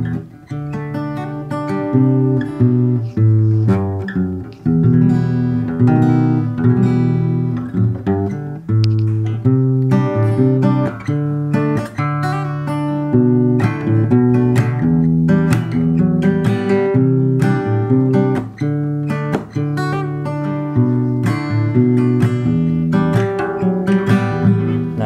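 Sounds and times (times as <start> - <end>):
acoustic guitar chords strummed: 0.0 - 25.0.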